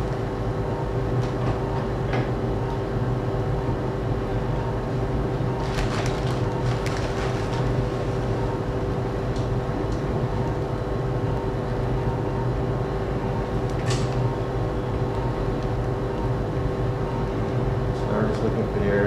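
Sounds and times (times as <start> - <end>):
equipment hum: 0.0 - 19.0.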